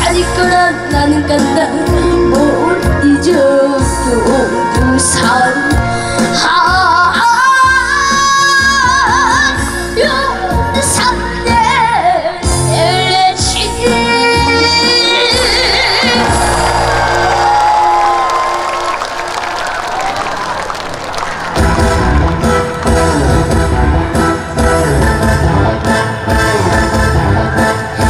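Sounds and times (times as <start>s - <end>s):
backing track music: 0.0s - 28.0s.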